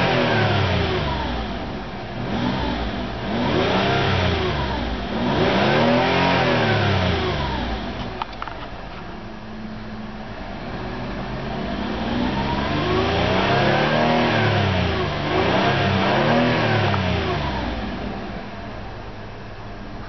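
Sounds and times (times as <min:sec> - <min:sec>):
car engine revving: 0:00.0 - 0:08.7, 0:10.2 - 0:18.7.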